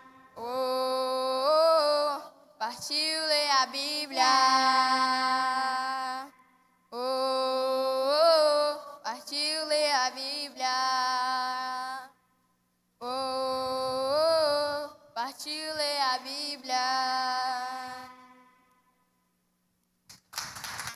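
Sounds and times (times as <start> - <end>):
person singing: 0.0 - 6.4, 7.0 - 12.1, 13.0 - 18.5.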